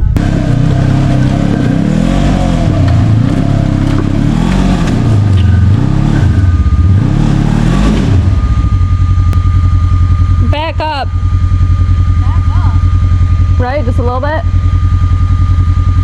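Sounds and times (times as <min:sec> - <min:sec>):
thin steady whine: 0:00.0 - 0:16.0
utility vehicle engine revving: 0:00.0 - 0:16.0.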